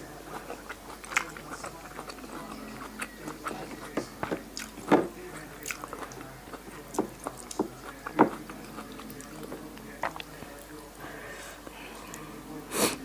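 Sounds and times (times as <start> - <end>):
chewing and mouth smacks: 0.0 - 11.0.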